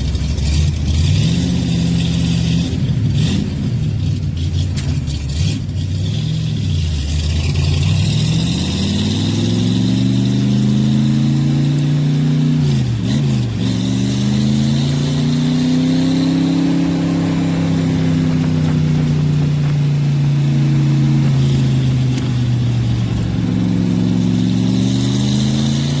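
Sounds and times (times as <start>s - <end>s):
car engine revving under load: 0.0s - 26.0s.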